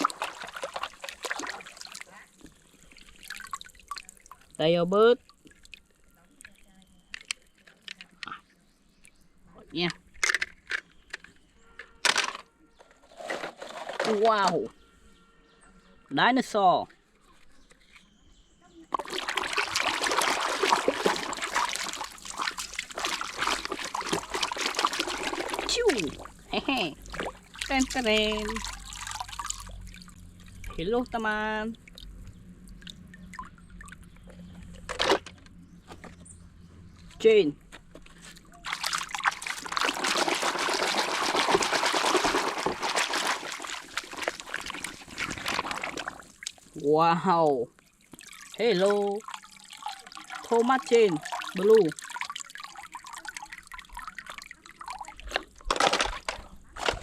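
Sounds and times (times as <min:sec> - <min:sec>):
water trickling and splashing: 0:00.0 - 0:10.2, 0:18.9 - 0:35.2, 0:37.2 - 0:57.0.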